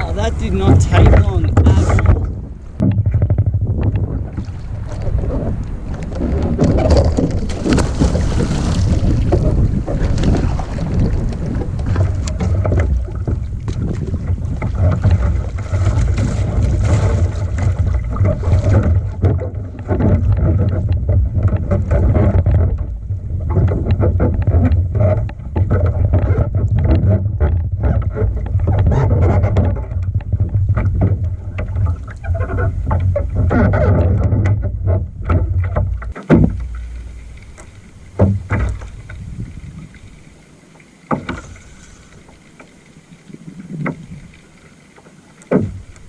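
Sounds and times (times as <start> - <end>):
wind buffeting microphone: 0.0 - 40.2.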